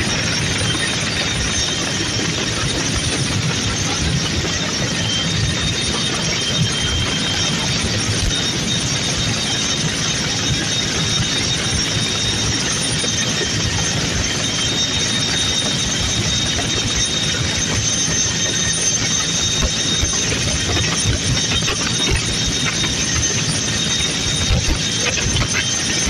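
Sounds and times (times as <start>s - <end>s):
helicopter engine and rotor noise: 0.0s - 26.0s.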